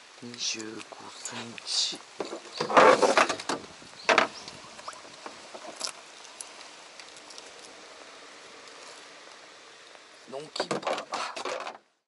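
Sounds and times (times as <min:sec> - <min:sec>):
rustling: 0:00.2 - 0:12.0.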